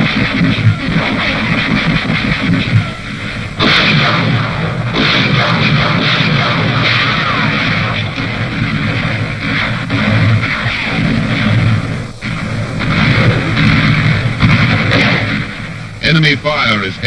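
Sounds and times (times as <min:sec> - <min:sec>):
rapid gunfire: 0:00.0 - 0:16.9.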